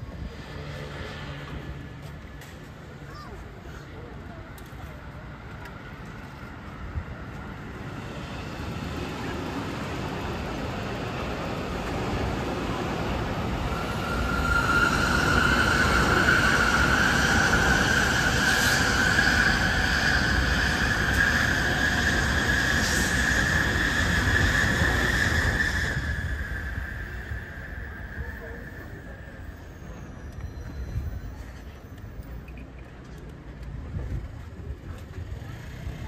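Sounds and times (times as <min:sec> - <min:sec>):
train rushing past: 0:00.0 - 0:03.0, 0:05.3 - 0:32.4.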